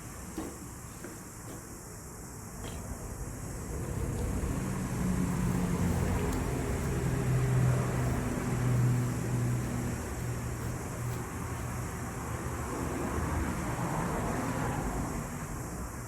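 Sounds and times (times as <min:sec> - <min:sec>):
engine running steadily: 0:02.6 - 0:16.0.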